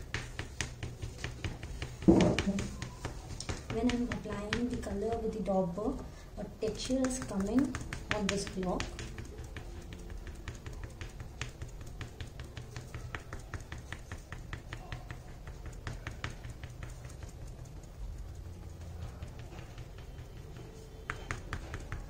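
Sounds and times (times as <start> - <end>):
sponge dabbing light taps: 0.0 - 22.0.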